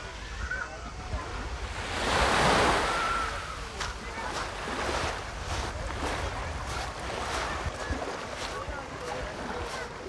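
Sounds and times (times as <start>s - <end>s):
waves washing onto pebble beach: 1.4s - 10.0s.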